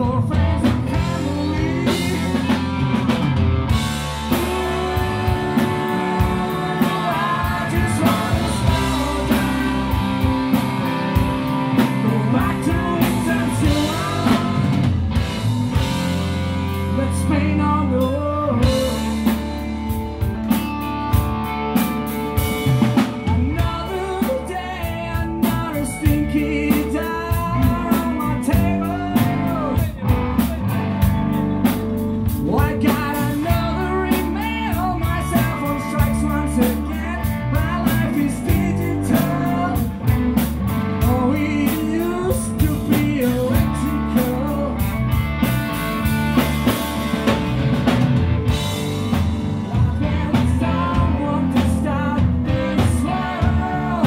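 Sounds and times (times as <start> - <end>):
man singing: 0.0 - 15.2, 16.7 - 19.7, 23.2 - 31.1, 32.2 - 45.2, 49.4 - 54.0
bass guitar: 0.0 - 54.0
drum kit: 0.0 - 54.0
electric guitar: 0.0 - 54.0.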